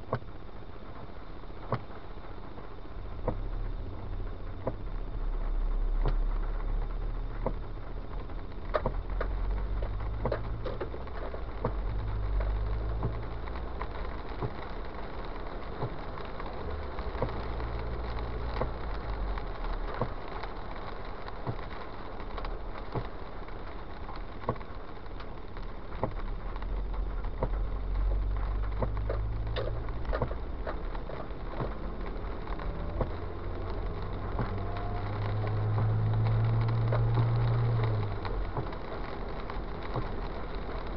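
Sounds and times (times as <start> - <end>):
car engine and tyre rumble: 0.0 - 40.9
tyres hissing on wet road: 0.0 - 40.9.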